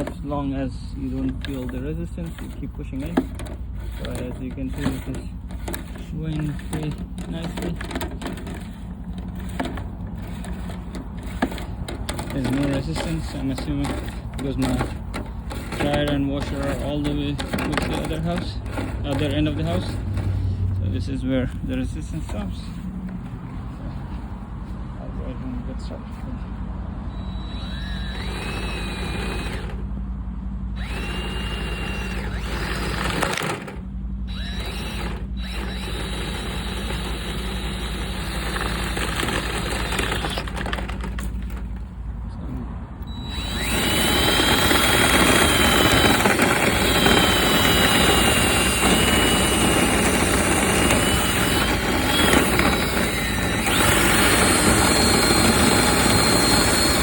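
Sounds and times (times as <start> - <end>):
power drill whining: 0.0 - 23.2, 27.1 - 29.9, 30.8 - 42.0, 43.0 - 57.0.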